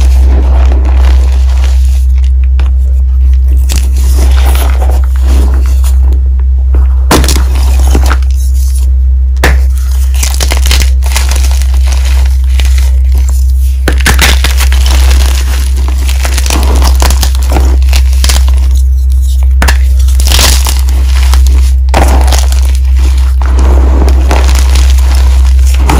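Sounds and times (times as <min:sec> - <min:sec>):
chalk cracking and crunching: 0:00.0 - 0:06.0, 0:07.1 - 0:25.9
steady low hum: 0:00.0 - 0:25.9.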